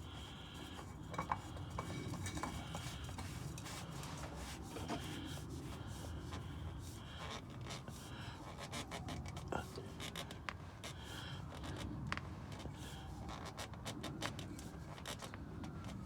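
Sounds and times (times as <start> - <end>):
small clicks and scrapes: 0.2 - 16.0.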